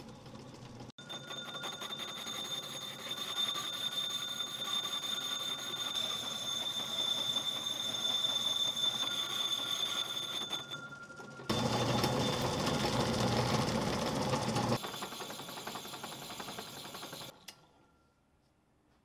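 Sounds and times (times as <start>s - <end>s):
metal lathe whining and rattling: 0.0s - 17.4s.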